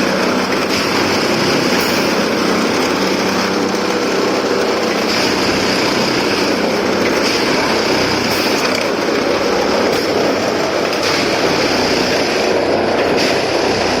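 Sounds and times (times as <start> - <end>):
tamping machine mechanical din: 0.0 - 14.0.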